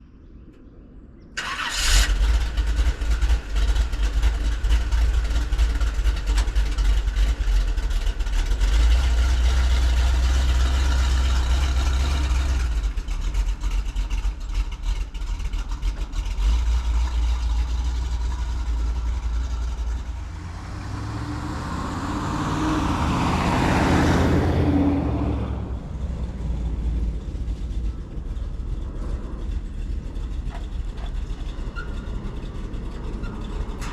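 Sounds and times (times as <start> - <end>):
truck engine rumbling: 1.3 - 33.9
truck engine cranking: 1.4 - 33.9.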